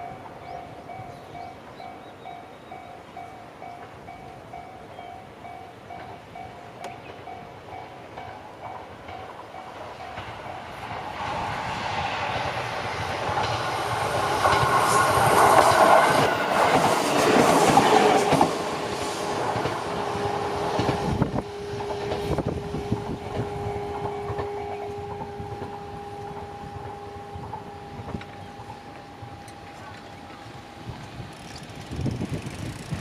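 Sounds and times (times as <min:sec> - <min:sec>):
electric train rumble and wheel clatter: 0:00.0 - 0:33.0.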